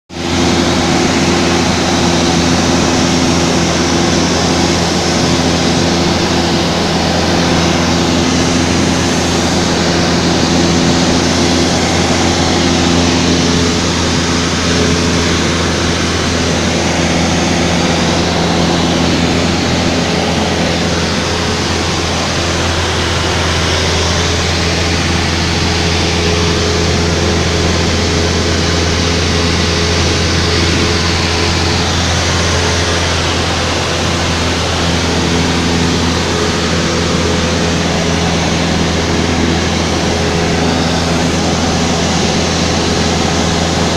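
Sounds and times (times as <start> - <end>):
aircraft engine and propeller droning: 0.1 - 43.9.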